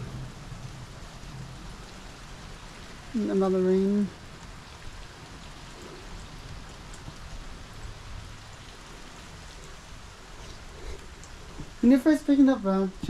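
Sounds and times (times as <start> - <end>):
faint raindrop ticks: 0.0 - 13.0
steady rain hiss: 0.0 - 13.0.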